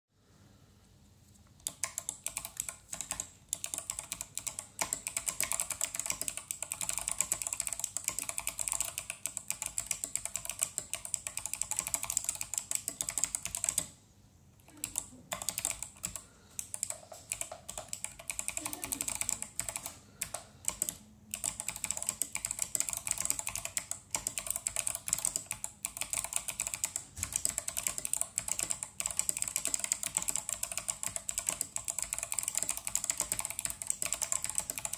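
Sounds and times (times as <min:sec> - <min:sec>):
fast typing on mechanical keyboard: 0:01.6 - 0:14.0, 0:14.6 - 0:34.9.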